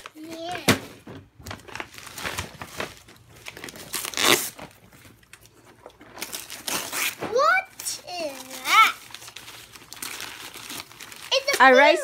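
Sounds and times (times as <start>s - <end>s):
wrapping paper crinkling and tearing: 1.5s - 12.0s.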